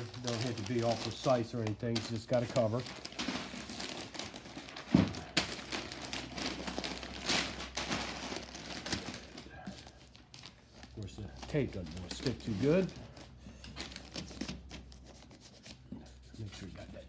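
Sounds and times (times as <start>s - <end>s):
paper and tape crinkling: 0.0s - 17.0s.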